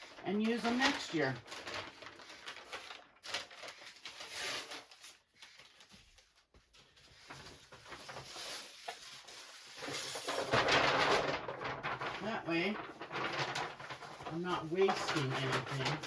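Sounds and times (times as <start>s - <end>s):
newspaper rustling: 0.0s - 16.0s.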